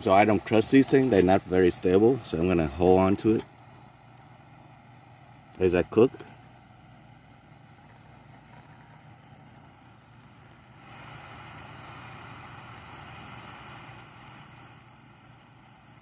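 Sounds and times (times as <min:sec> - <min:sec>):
gas stove burner hissing: 0:00.0 - 0:16.0.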